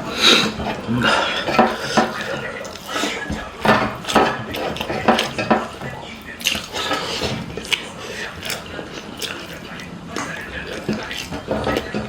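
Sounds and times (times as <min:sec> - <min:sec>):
wet chewing and lip smacking: 0:00.0 - 0:12.0
cutlery clinking on plate: 0:00.3 - 0:08.7, 0:10.2 - 0:12.0.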